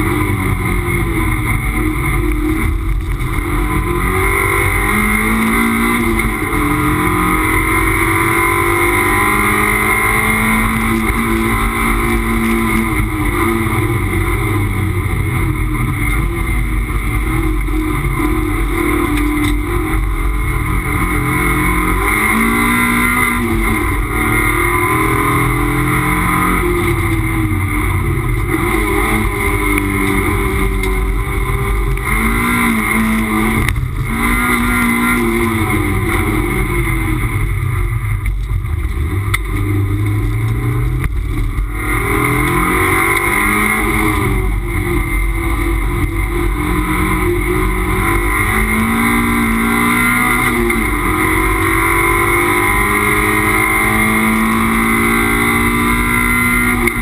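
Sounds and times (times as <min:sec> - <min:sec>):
race car engine revving: 0:00.0 - 0:57.0
road and wind noise: 0:00.0 - 0:57.0.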